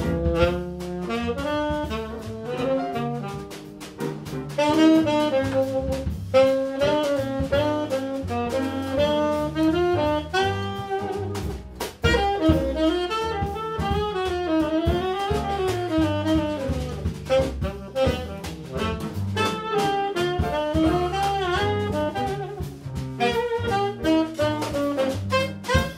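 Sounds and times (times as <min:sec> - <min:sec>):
double bass: 0:00.0 - 0:25.9
drum kit with cymbals: 0:00.0 - 0:25.9
piano: 0:00.0 - 0:25.9
tenor saxophone melody: 0:00.0 - 0:25.9.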